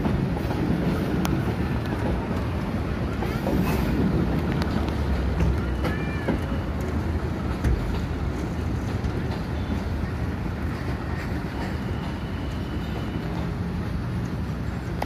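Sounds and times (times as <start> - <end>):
locomotive engine rumble: 0.0 - 15.0.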